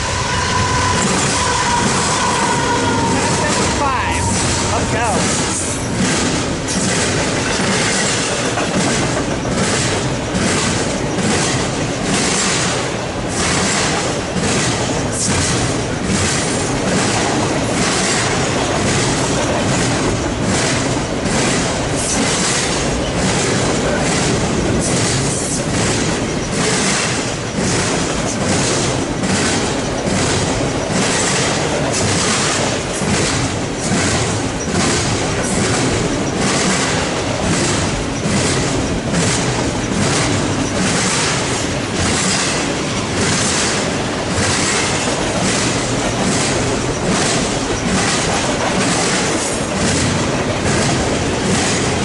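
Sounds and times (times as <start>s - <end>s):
freight train rolling past: 0.0s - 52.0s
wheels clicking over rail joints: 4.4s - 52.0s.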